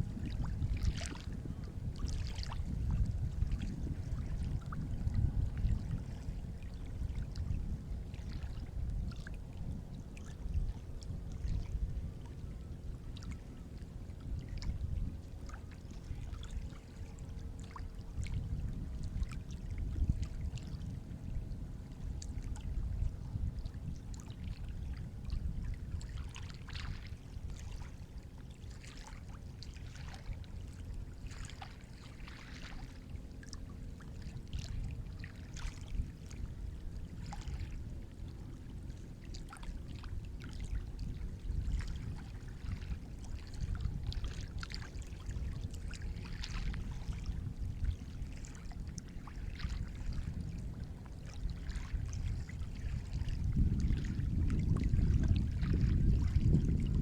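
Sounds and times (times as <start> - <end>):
sea water lapping and splashing: 0.0 - 57.0.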